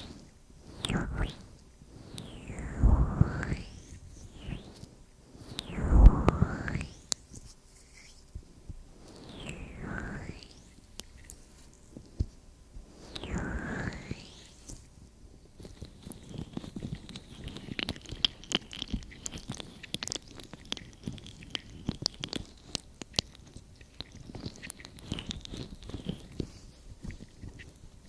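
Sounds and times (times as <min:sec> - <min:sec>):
fingers rubbing microphone: 0:00.0 - 0:08.3, 0:09.0 - 0:11.4, 0:12.9 - 0:14.9, 0:15.6 - 0:28.0.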